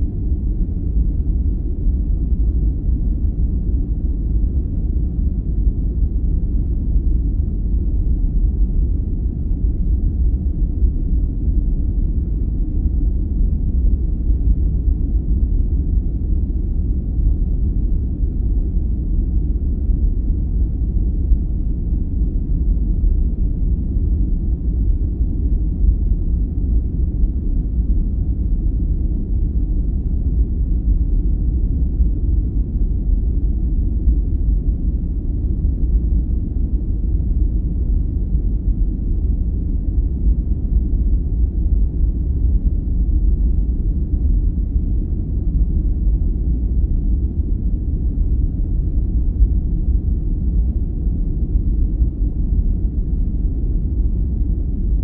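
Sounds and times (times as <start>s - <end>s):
deep brown noise rumble: 0.0s - 55.0s.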